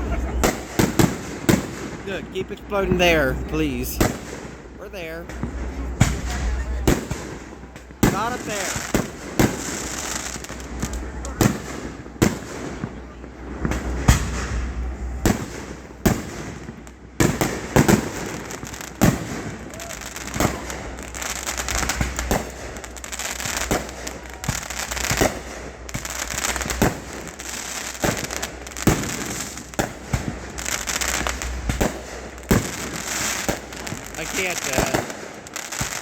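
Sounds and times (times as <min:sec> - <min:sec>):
crackling firework fizz: 0:03.1 - 0:36.0
sharp firework bangs: 0:05.2 - 0:36.0.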